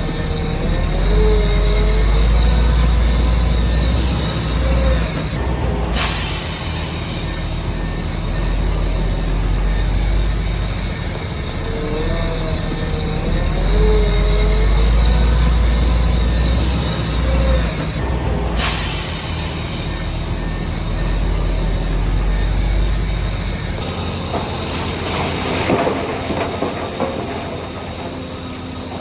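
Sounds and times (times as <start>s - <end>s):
hiss: 0.0s - 18.0s, 18.6s - 29.0s
faint squeals: 0.0s - 26.2s
crackling and clanking: 0.0s - 29.0s
diesel machinery rumble: 0.0s - 29.0s.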